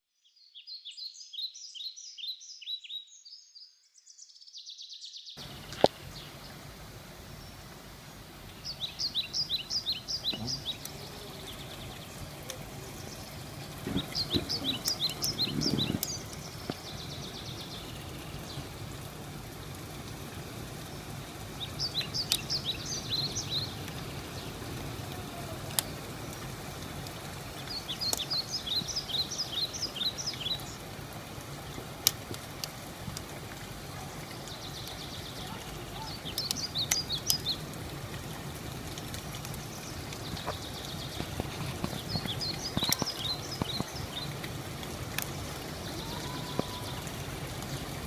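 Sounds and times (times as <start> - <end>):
songbird singing: 0.0 - 32.4, 33.2 - 48.0
rain hissing: 5.4 - 48.0.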